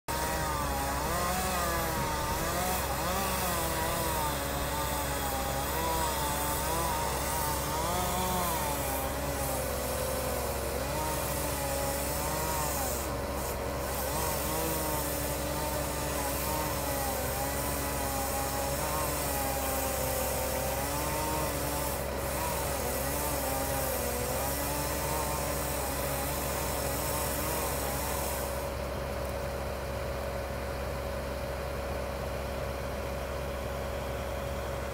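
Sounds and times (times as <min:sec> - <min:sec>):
chainsaw cutting wood: 0:00.1 - 0:29.4
truck engine droning: 0:00.1 - 0:34.9.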